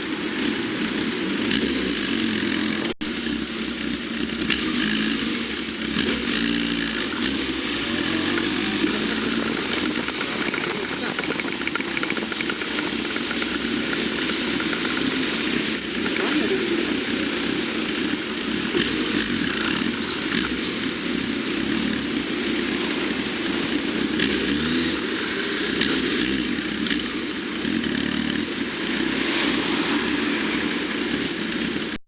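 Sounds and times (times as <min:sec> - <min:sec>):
motorcycle engine running: 0:00.0 - 0:32.0
passing vehicles: 0:00.0 - 0:32.0.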